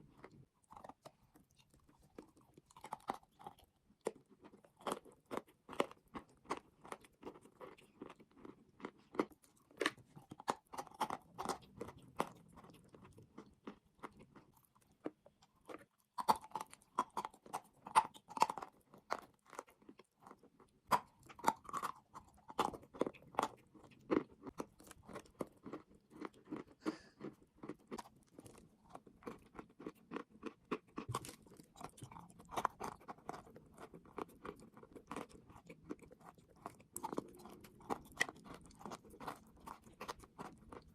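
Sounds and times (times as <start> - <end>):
person chewing crunchy chalk: 0.0 - 40.9.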